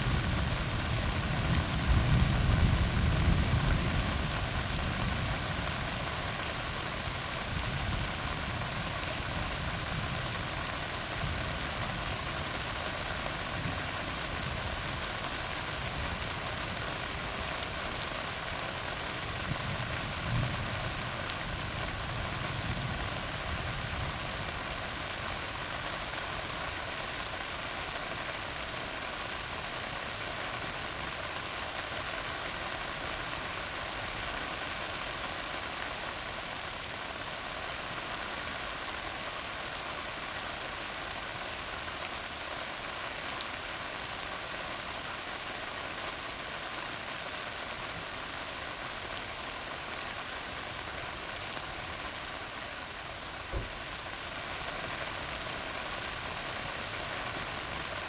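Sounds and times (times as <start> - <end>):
rain on asphalt road: 0.0 - 58.0.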